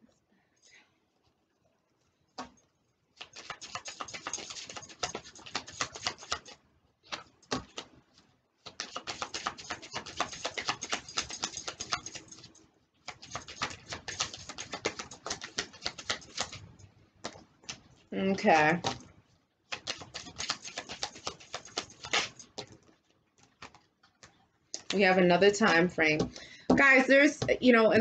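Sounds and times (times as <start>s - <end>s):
cards being shuffled: 3.2s - 19.1s, 19.7s - 28.0s.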